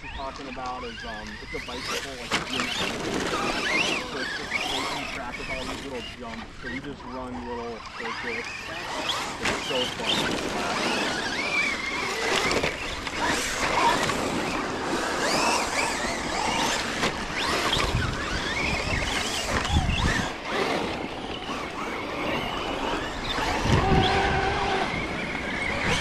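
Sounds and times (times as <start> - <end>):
electric motors whining: 0.0 - 26.0.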